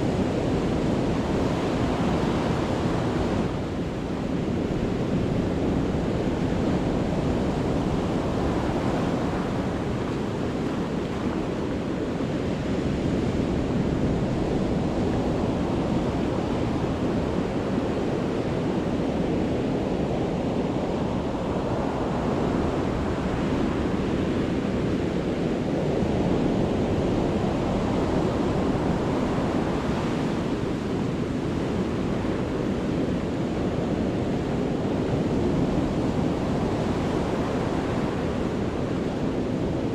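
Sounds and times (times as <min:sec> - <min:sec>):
waves breaking on a beach: 0:00.0 - 0:39.9
wind on microphone: 0:00.0 - 0:39.9.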